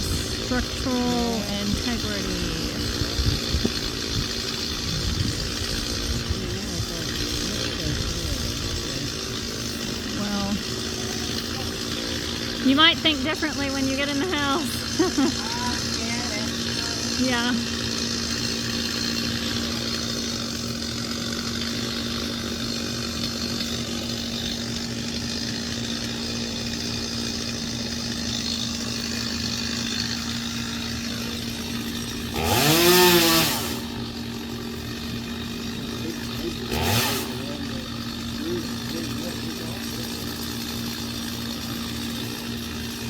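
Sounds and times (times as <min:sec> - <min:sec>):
chainsaw revving: 0:00.0 - 0:43.0
steady engine hum: 0:00.0 - 0:43.0.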